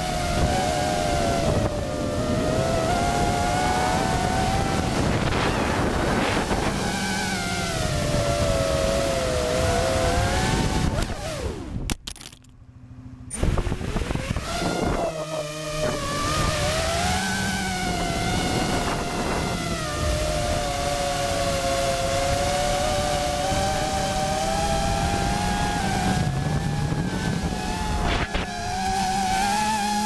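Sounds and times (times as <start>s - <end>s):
drone motors whining: 0.0s - 12.0s, 12.7s - 30.0s.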